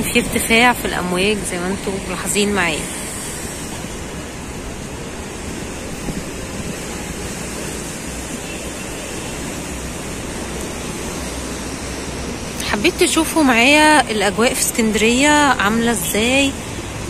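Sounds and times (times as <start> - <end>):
waves breaking over rocks: 0.0 - 17.0.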